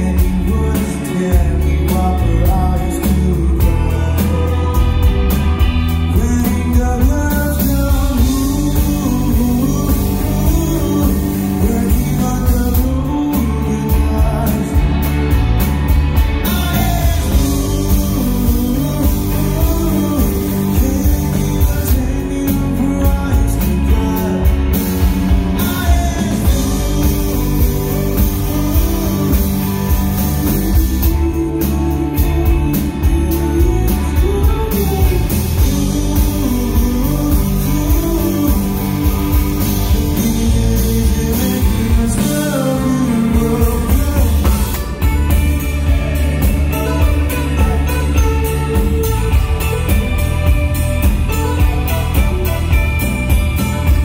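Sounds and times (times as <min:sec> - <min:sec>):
person singing lead vocal: 0:00.0 - 0:52.8
rock band playing live: 0:00.0 - 0:54.0.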